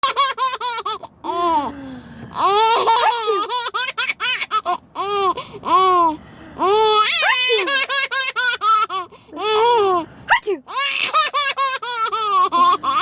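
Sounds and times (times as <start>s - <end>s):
baby laughing: 0.0s - 1.7s, 2.4s - 10.0s, 10.7s - 13.0s.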